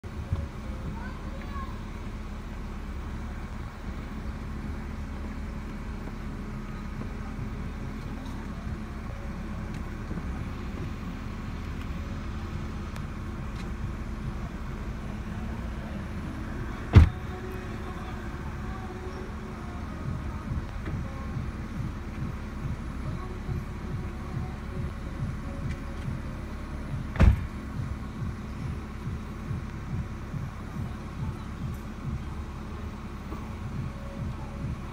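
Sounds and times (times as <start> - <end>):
low rumble: 0.0 - 34.9.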